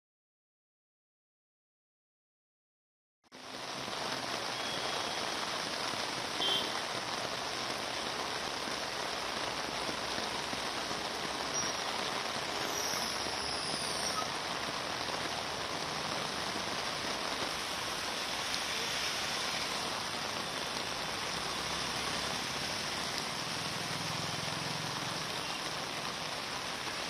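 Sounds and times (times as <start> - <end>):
heavy rain: 3.3 - 27.0.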